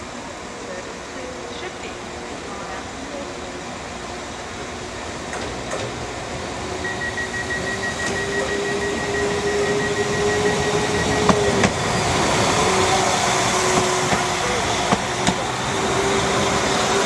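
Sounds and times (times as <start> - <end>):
train rumble: 0.0 - 17.0
train whine: 0.0 - 17.0.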